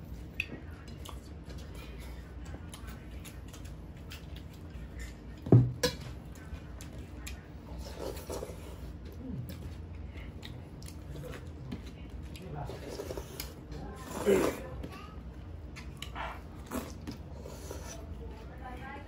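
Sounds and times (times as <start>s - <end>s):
chewing: 0.1s - 5.5s, 6.2s - 18.4s.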